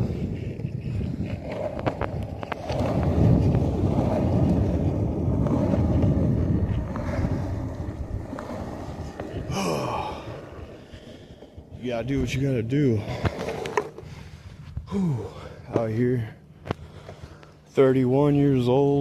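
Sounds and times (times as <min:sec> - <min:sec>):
skateboard wheels rolling on pavement: 0:00.0 - 0:14.8, 0:15.4 - 0:19.0
wind buffeting microphone: 0:00.0 - 0:17.4.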